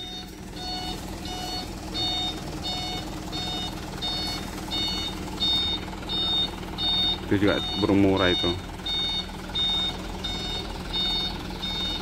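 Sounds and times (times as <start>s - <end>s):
low engine hum: 0.0s - 12.0s
truck reversing alarm beeping: 0.0s - 12.0s.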